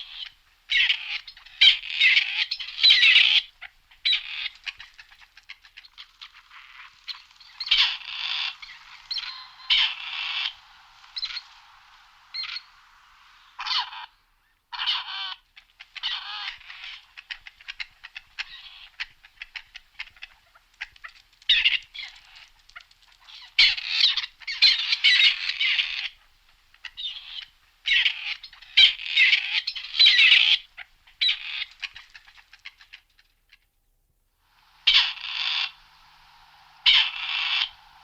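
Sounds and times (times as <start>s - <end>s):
partridge calling in scratchy bursts: 0.0s - 33.4s, 34.4s - 38.0s.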